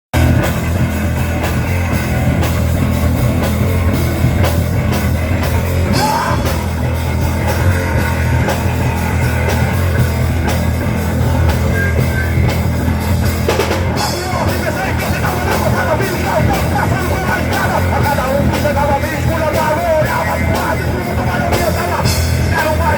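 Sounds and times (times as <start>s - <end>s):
drum kit beat: 0.1s - 22.9s
rock band playing live: 0.1s - 22.9s.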